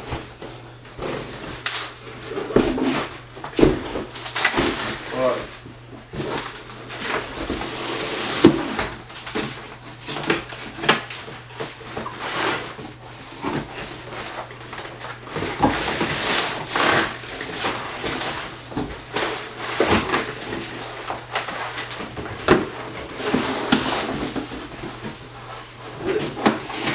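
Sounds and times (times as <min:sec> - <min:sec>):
cardboard and packaging rustling: 0:00.0 - 0:26.9.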